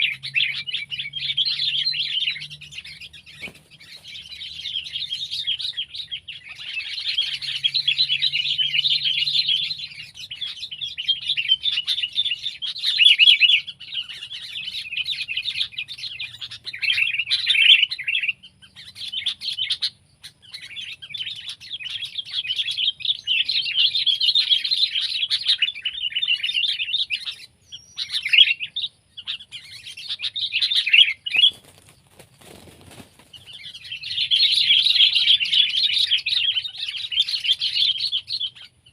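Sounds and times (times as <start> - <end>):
bulbul chattering chirps: 0.0 - 38.9.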